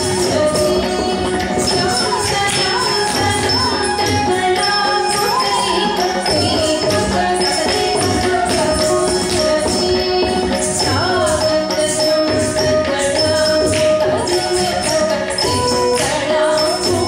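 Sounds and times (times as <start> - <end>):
steady percussion: 0.0 - 17.0.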